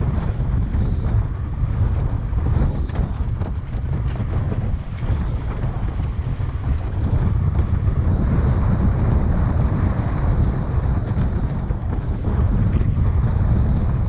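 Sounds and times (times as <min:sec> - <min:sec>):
water rushing under board: 0:00.0 - 0:14.0
wind buffeting microphone: 0:00.0 - 0:14.0.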